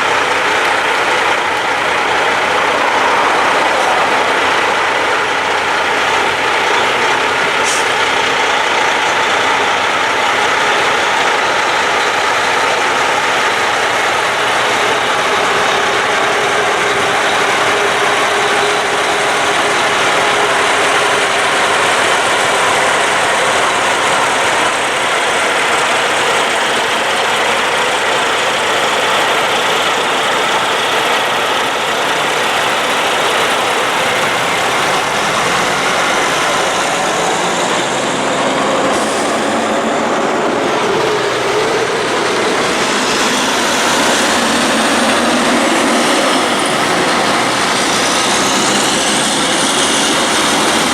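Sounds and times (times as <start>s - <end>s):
truck diesel engines rumbling: 0.0s - 50.9s.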